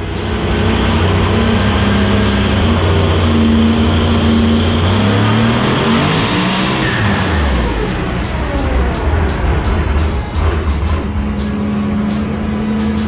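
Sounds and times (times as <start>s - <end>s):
drag car engine at full throttle: 0.0s - 13.0s.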